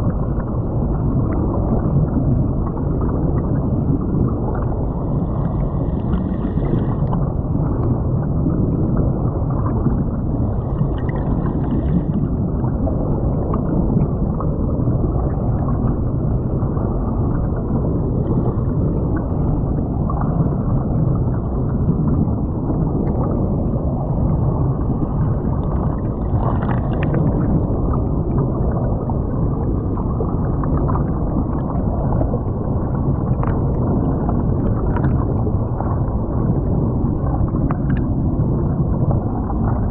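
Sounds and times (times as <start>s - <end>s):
air bubbles streaming: 0.0s - 39.9s
muffled underwater creek rumble: 0.0s - 39.9s.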